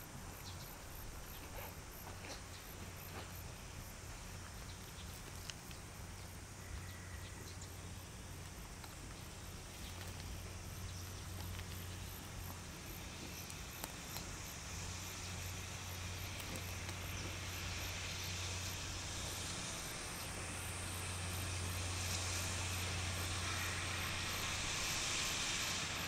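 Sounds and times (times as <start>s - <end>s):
faint hiss: 0.0s - 26.0s
insects trilling: 0.0s - 26.0s
steady low hum: 0.0s - 26.0s.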